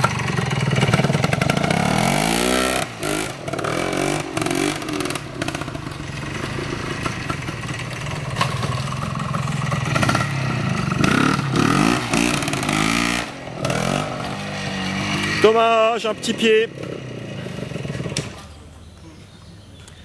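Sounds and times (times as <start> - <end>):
motorcycle engine revving: 0.0 - 18.7.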